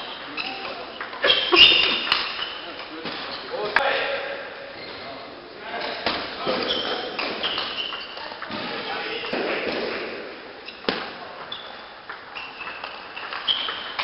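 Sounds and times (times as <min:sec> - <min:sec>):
shoes squeaking on floor: 0:00.0 - 0:03.9, 0:04.7 - 0:09.3, 0:10.6 - 0:14.0.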